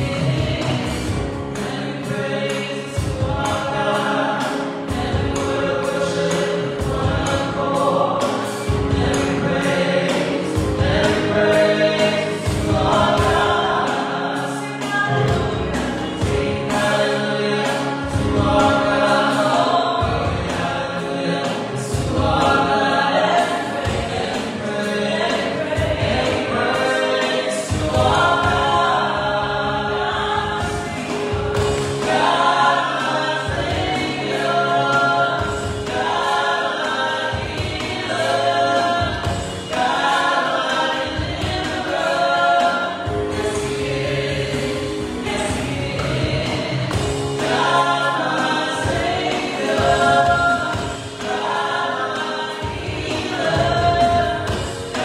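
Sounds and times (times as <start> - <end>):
group singing worship song: 0.0 - 55.0
keyboard accompaniment: 0.0 - 55.0.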